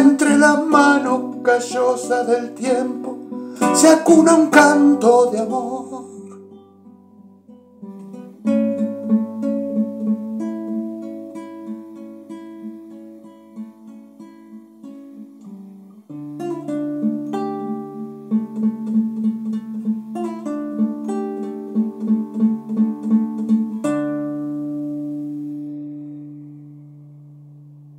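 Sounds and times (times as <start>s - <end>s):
acoustic guitar playing: 0.0s - 27.9s.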